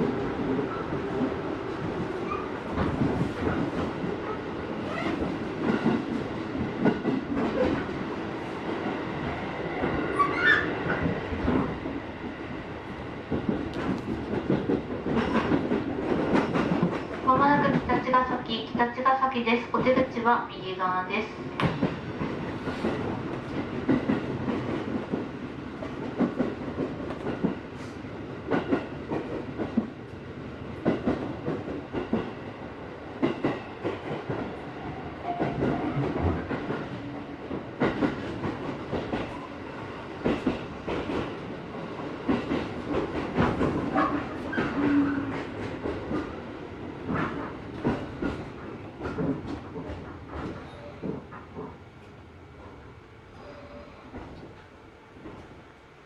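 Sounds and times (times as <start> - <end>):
train rumble from inside: 0.0 - 56.0.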